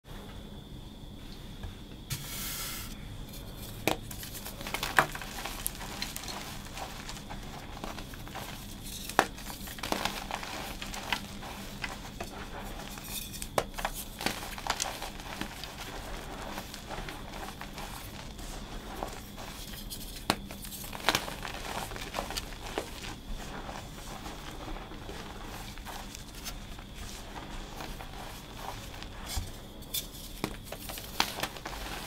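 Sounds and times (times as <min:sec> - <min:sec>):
chalk blocks crunching: 0:03.4 - 0:32.0.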